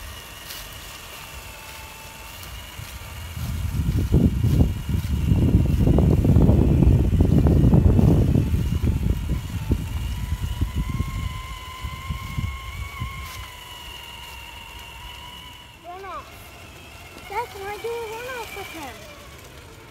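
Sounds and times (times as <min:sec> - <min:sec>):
electric motor whining: 0:00.0 - 0:19.9.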